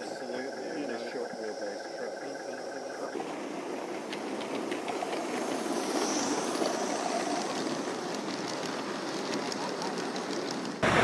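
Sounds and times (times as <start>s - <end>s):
model train wheels rumbling: 0.0s - 11.0s
wheels clicking over rail joints: 0.0s - 11.0s.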